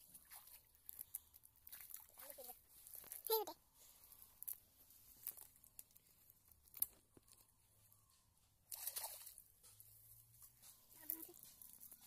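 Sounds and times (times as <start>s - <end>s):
wet net rustling and crackling: 0.0s - 12.0s.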